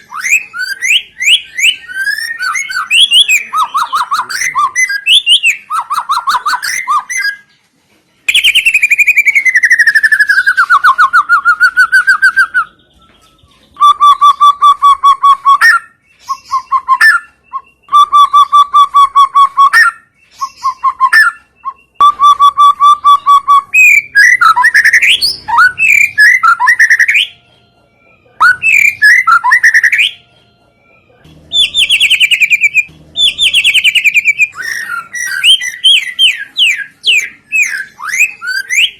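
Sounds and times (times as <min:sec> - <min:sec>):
recorded songbird chirps and trills: 0:00.0 - 0:07.6, 0:08.2 - 0:38.9.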